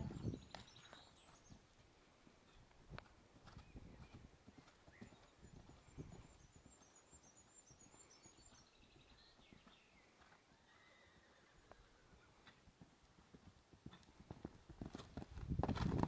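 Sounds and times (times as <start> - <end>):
hooves cantering on sand: 0.1 - 16.0.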